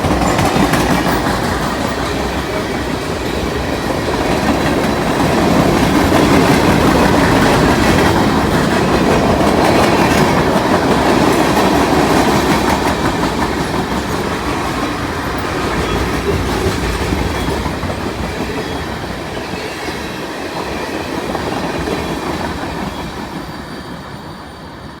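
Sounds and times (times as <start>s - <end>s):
freight train cars rolling: 0.0s - 25.0s.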